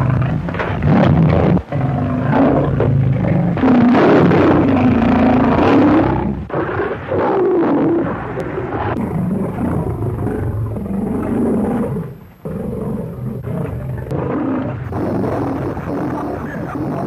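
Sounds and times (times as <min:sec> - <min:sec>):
big cats roaring and snarling: 0:00.0 - 0:17.0.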